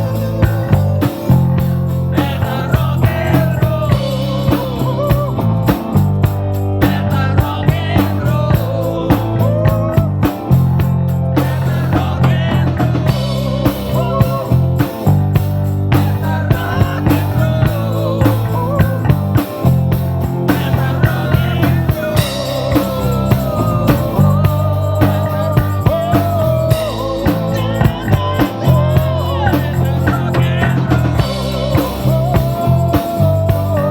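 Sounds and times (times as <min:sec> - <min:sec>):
bass line: 0:00.0 - 0:33.9
drum kit beat: 0:00.0 - 0:33.9.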